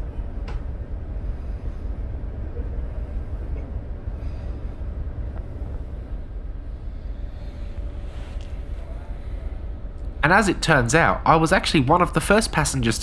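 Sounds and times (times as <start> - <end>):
ship machinery low rumble: 0.0 - 13.0.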